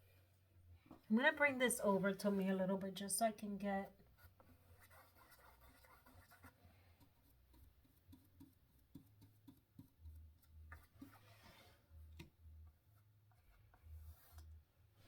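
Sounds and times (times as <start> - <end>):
faint ticks and scrapes: 2.1 - 15.0.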